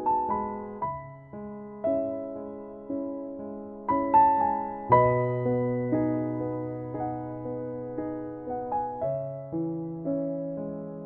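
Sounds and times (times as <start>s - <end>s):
soft keyboard melody: 0.0s - 11.0s.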